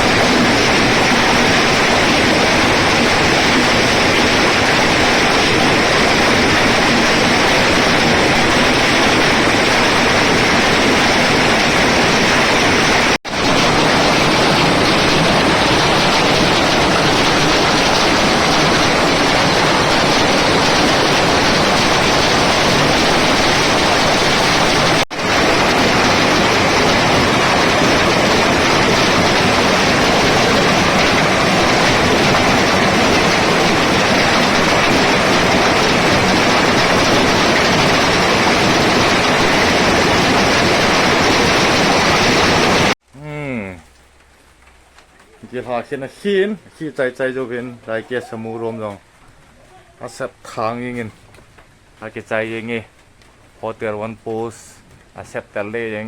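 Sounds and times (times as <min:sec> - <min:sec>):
hail and rain pelting down: 0:00.0 - 0:56.0.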